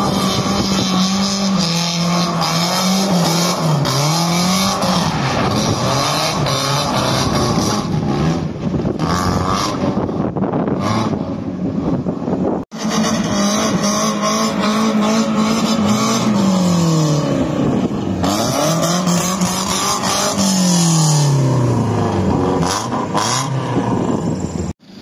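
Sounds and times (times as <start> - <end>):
car engine revving: 0.0 - 11.9, 12.7 - 24.8.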